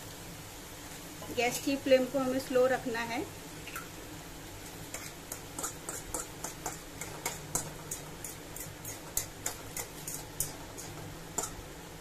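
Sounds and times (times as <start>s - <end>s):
hot oil crackling and popping: 0.0s - 12.0s.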